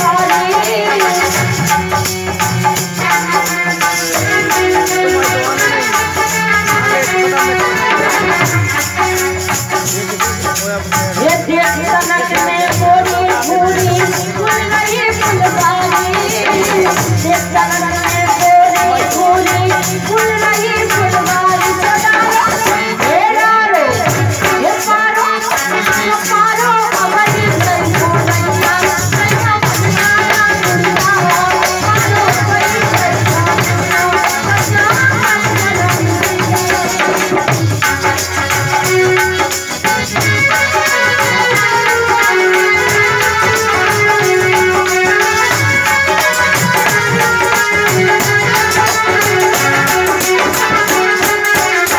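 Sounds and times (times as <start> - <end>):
woman singing: 0.0 - 9.8, 11.0 - 51.9
fast rattling percussion: 0.0 - 51.9
harmonium chords: 0.0 - 51.9.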